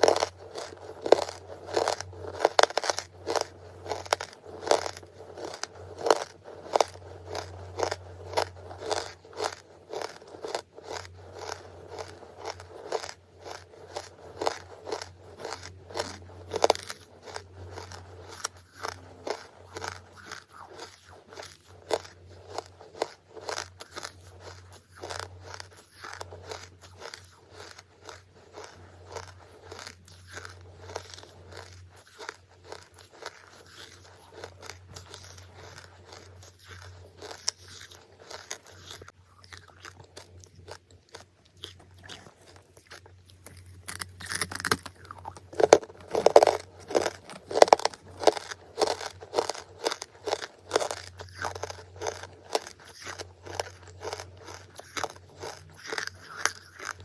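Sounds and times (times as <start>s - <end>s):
crunching charcoal close-up: 0.0s - 57.0s
faint low hum: 0.0s - 57.0s.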